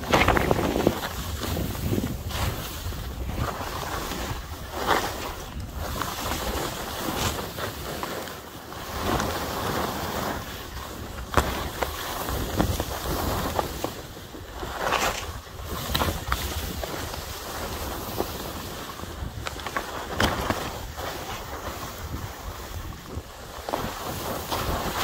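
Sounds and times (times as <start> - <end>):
wind buffeting microphone: 0.0 - 7.9, 10.2 - 25.0
skis scraping through snow: 0.0 - 25.0.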